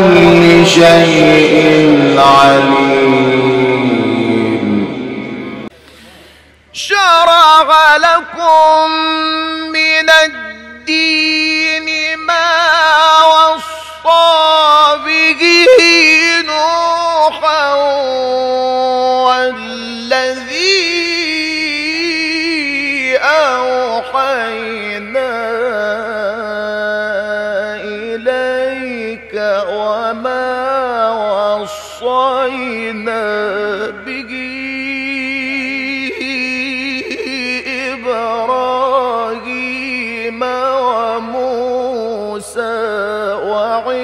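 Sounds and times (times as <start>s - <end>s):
man reciting melodically into microphone: 0.0s - 44.0s.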